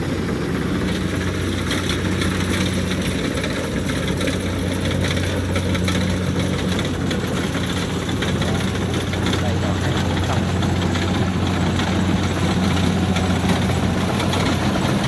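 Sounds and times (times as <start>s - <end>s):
diesel engine drone: 0.0s - 15.0s
threshing machinery noise: 0.0s - 15.0s.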